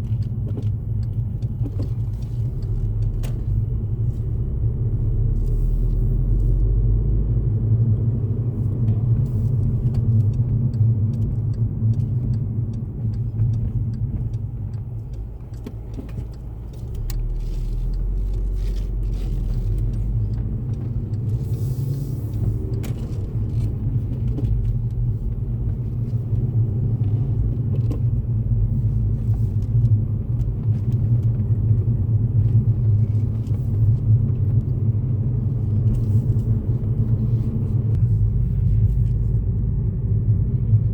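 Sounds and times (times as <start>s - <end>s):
car engine running: 0.0s - 40.1s.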